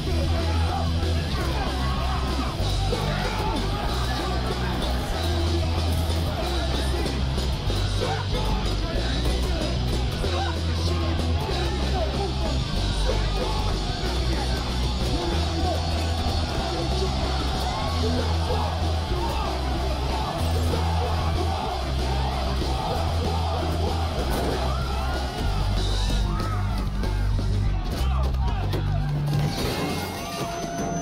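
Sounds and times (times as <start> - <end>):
men yelling and chanting: 0.0 - 29.2
rock music with heavy bass: 0.0 - 30.1.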